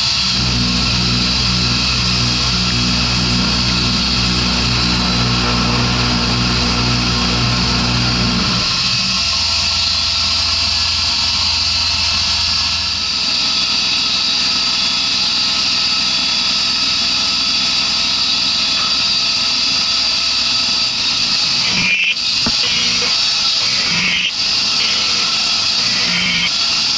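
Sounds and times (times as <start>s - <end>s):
milling machine spindle whine: 0.0s - 26.9s.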